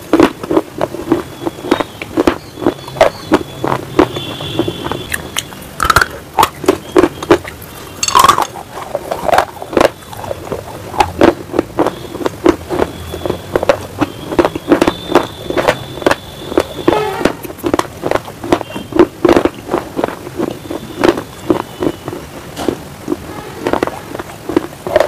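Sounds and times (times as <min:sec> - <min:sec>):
crunching and chewing clay: 0:00.0 - 0:25.0.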